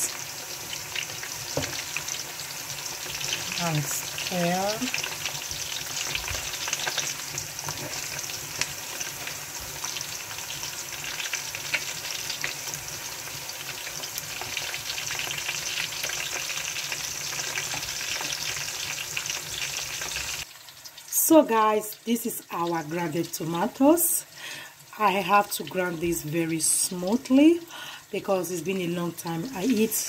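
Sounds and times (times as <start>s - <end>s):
onions sizzling in oil: 0.0s - 30.0s.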